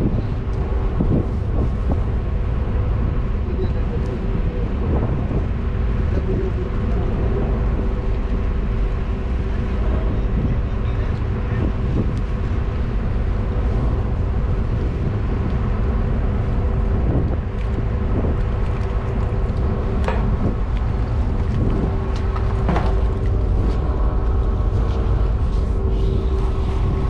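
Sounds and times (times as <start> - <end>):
ship engines droning: 0.0 - 27.0.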